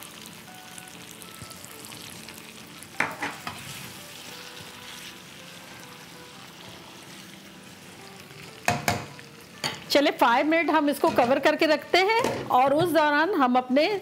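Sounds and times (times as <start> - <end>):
food sizzling in oil: 0.0 - 13.5.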